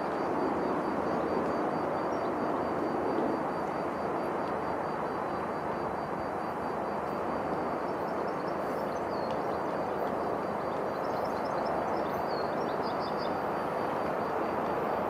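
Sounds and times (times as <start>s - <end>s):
steady rushing outdoor noise: 0.0s - 15.0s.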